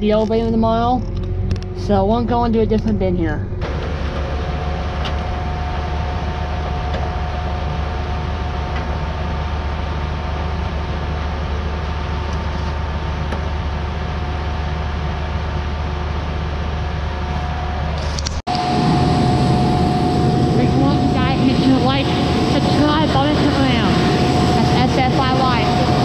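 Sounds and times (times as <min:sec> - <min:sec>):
tractor engine running: 0:00.0 - 0:26.0
grain auger whine: 0:03.6 - 0:26.0.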